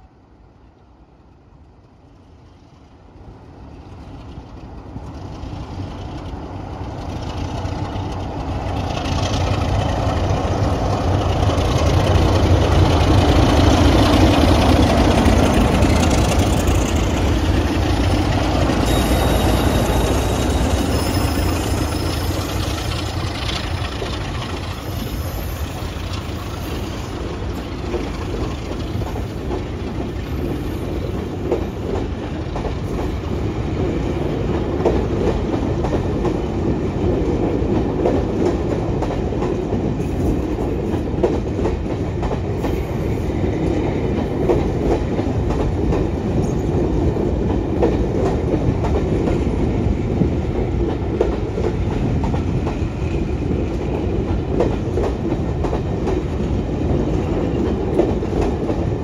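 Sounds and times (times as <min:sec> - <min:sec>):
diesel locomotives pulling train: 0:00.0 - 0:59.0
train coaches rolling by: 0:00.0 - 0:59.0.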